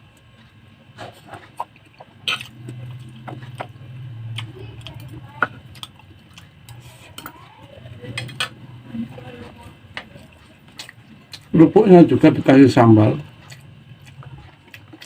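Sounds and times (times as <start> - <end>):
low hum: 0.0 - 12.3
chewing and mouth noises: 0.1 - 7.8, 9.0 - 11.6, 13.2 - 15.0.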